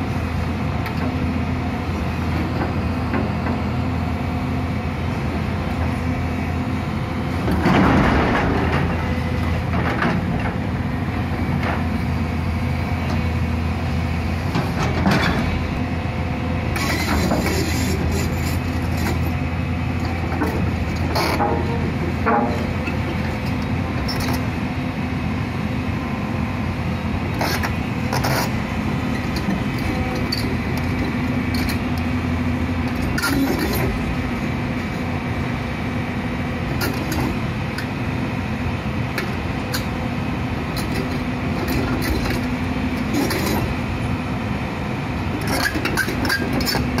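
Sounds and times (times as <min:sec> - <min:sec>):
excavator diesel engine humming: 0:00.0 - 0:47.0.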